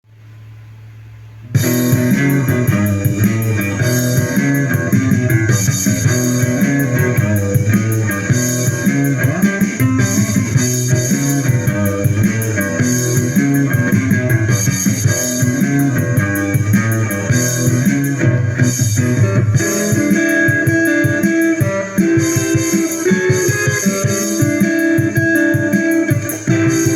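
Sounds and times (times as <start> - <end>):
instrumental rock music: 1.4 - 26.9.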